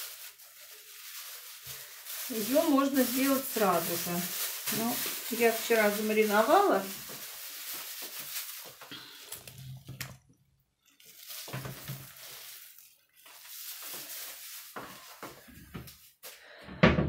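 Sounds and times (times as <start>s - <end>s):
plastic bag rustling: 0.0s - 10.1s, 10.8s - 16.6s.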